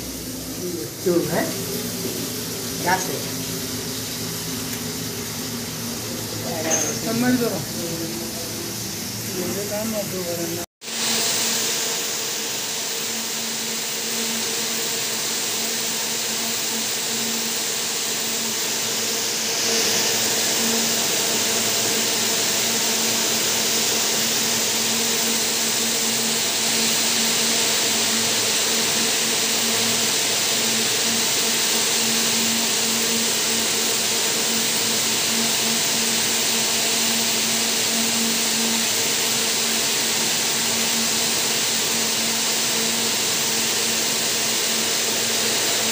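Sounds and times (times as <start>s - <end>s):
yarn winding machines whirring: 0.0s - 45.9s.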